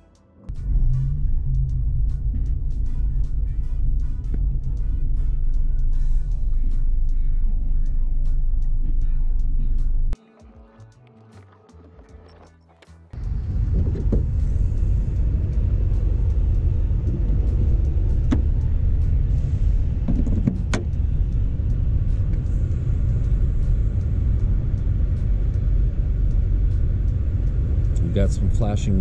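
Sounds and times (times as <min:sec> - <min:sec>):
loud low rumble: 0:00.5 - 0:10.2, 0:13.2 - 0:29.0.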